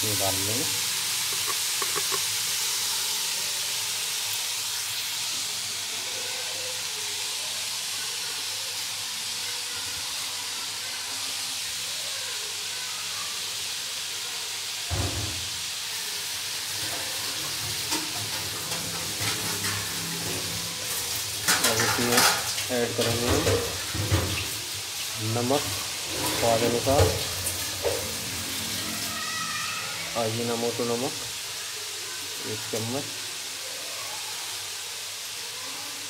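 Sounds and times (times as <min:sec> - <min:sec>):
mince sizzling in oil: 0:00.0 - 0:36.0.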